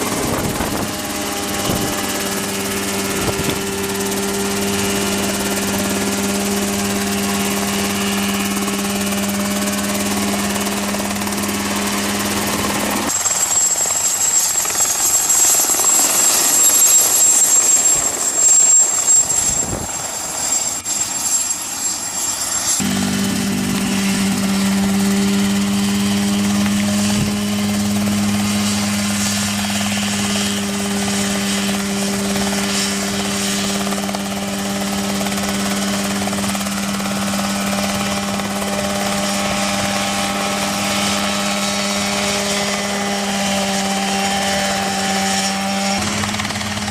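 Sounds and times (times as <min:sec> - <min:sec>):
high whine: 0:00.0 - 0:46.8
helicopter engine and rotor drone: 0:00.0 - 0:46.9.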